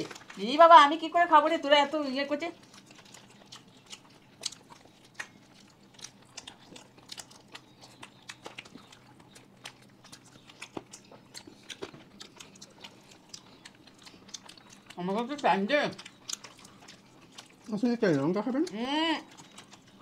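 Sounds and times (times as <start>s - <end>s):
chewing crispy food: 0.0s - 20.0s.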